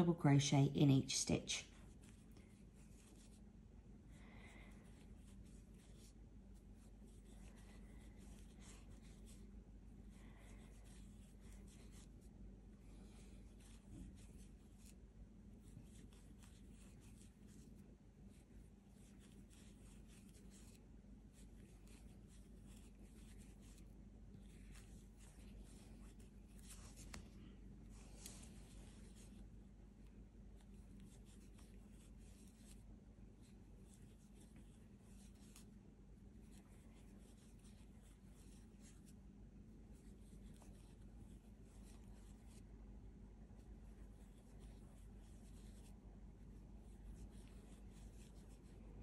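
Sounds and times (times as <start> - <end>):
faint room hum: 0.0 - 49.0
yarn rustling through crochet hook: 0.0 - 49.0.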